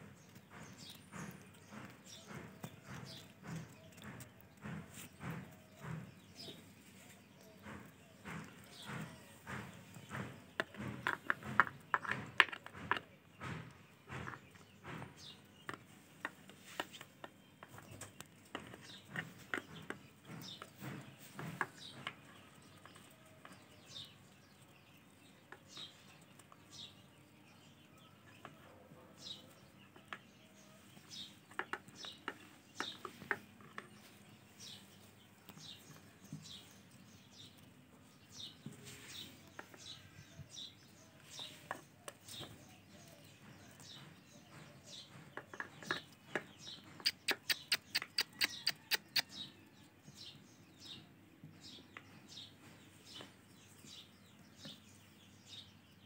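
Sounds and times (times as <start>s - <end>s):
parakeet chicks begging chirps: 0.0s - 56.0s.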